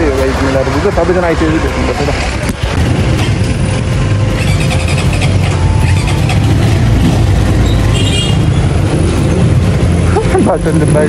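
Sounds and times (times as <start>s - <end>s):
dirt bike engine rumbling: 0.0s - 11.0s.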